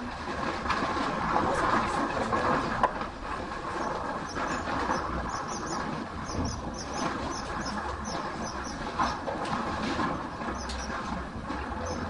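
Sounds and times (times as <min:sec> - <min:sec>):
bulldozer working: 0:00.0 - 0:12.0.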